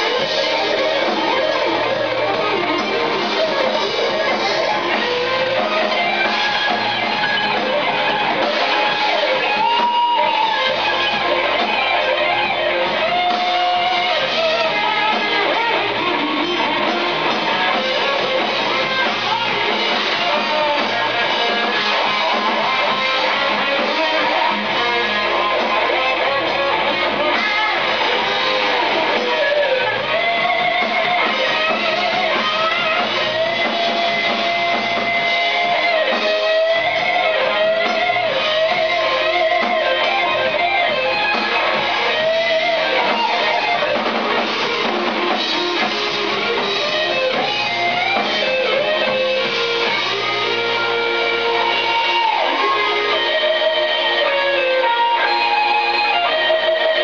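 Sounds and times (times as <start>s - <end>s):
bass guitar: 0.0s - 57.0s
drum kit: 0.0s - 57.0s
electric guitar solo: 0.0s - 57.0s.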